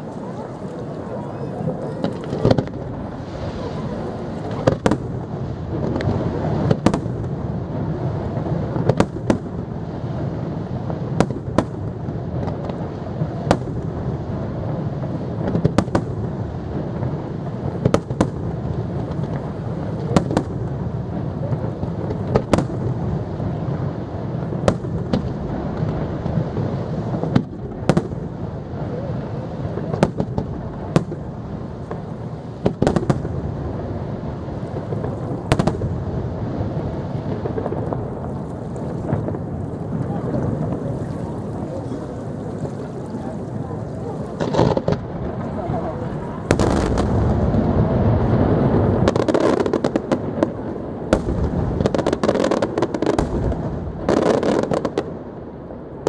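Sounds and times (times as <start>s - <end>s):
fireworks bursting with sharp bangs: 0.0s - 56.0s.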